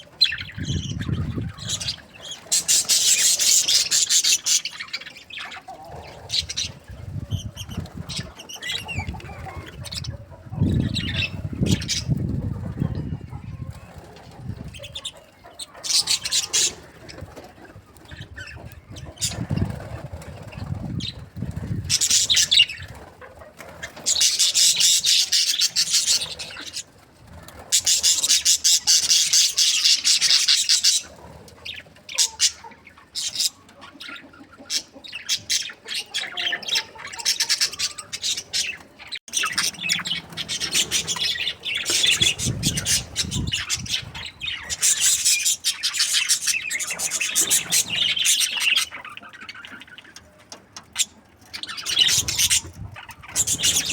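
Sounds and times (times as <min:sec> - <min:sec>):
budgerigars chattering and chirping: 0:00.0 - 0:53.9.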